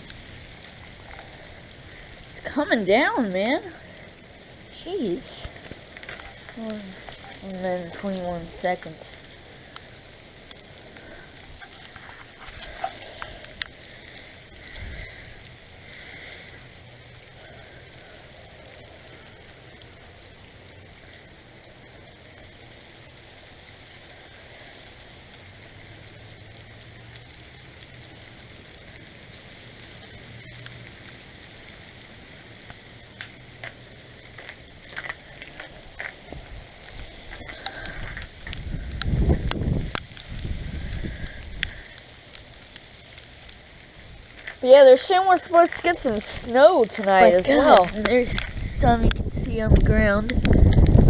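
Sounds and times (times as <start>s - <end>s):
ice pellets ticking: 0.0s - 51.0s.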